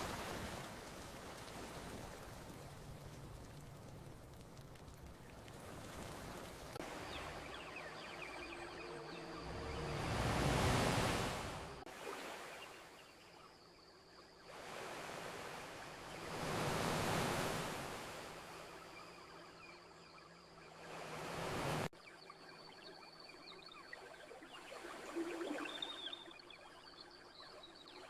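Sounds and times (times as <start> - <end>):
ocean waves breaking on a beach: 0.0 - 28.0.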